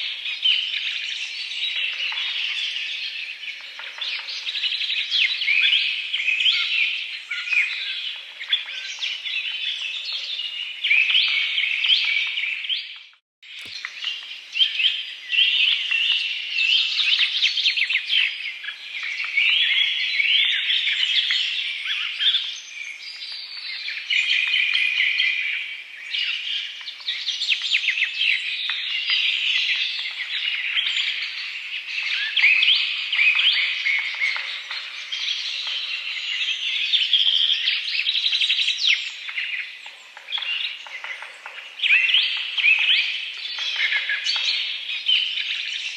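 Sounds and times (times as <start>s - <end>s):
small birds chirping and trilling: 0.0s - 45.9s.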